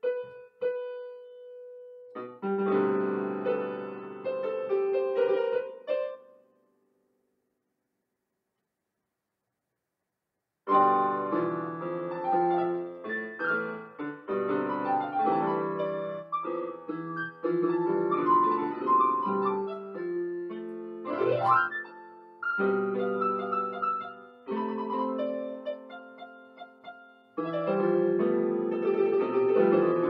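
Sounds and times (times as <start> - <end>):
solo piano piece: 0.0 - 6.8, 10.7 - 30.0.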